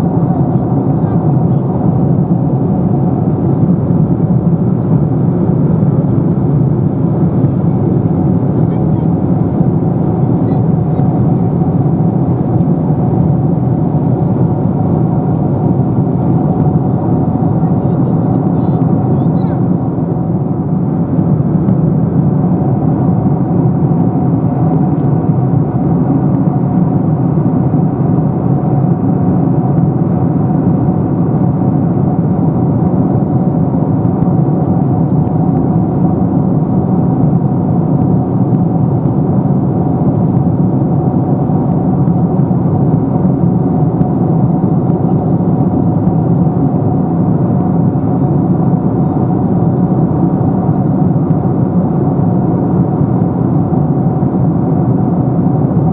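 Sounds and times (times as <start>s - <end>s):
airflow and engine drone: 0.0s - 55.9s
faint steady hum: 0.0s - 55.9s.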